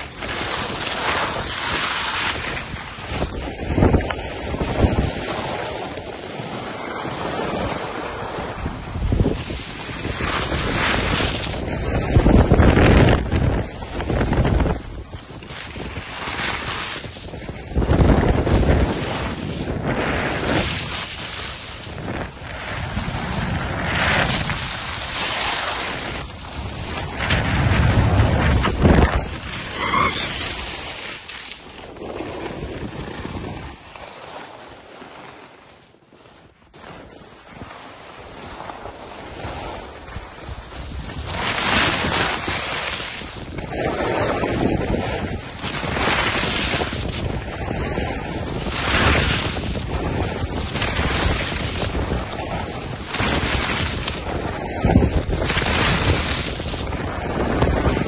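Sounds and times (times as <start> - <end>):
skis skidding through snow: 0.0 - 58.0
wind rushing over microphone: 0.0 - 58.0.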